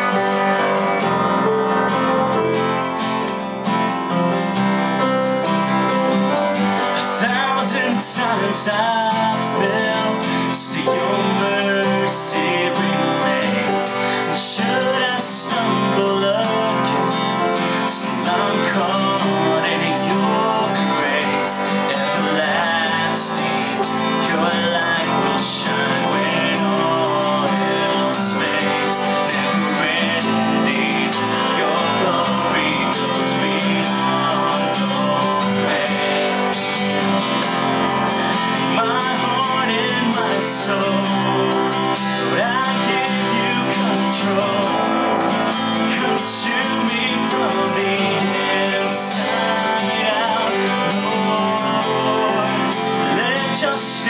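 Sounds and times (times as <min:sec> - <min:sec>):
man singing: 0:00.0 - 0:03.4, 0:06.6 - 0:54.0
acoustic guitar strummed: 0:00.0 - 0:54.0.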